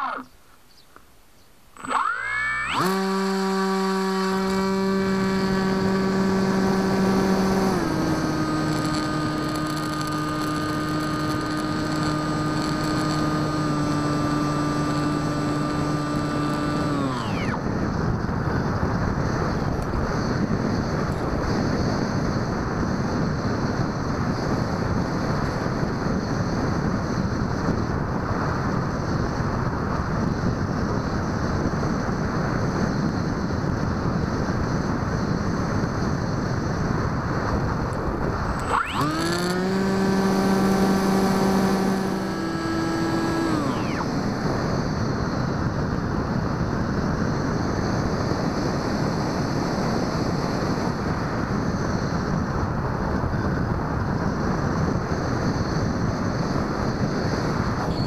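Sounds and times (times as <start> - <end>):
electric motor and propeller humming: 0.0 - 58.0
wind rushing over microphone: 1.8 - 58.0.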